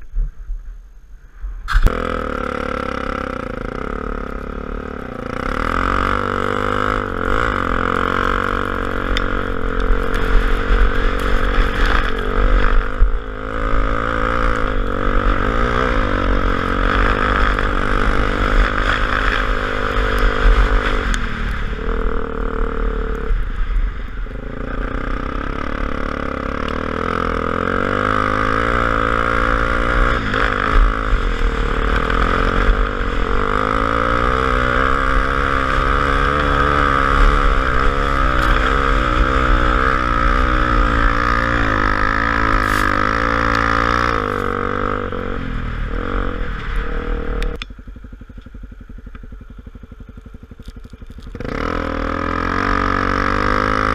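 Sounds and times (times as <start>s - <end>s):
motorcycle engine running: 1.7s - 53.9s.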